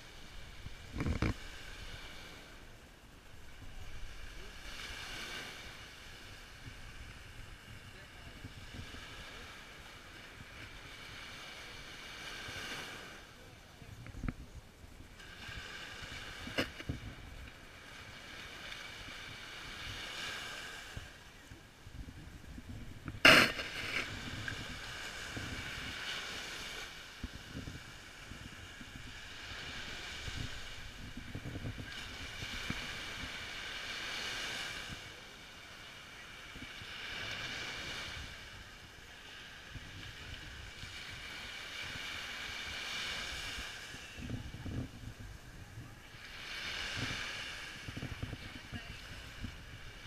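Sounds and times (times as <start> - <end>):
surf breaking on beach: 0.0 - 50.0
wind on microphone: 0.0 - 50.0.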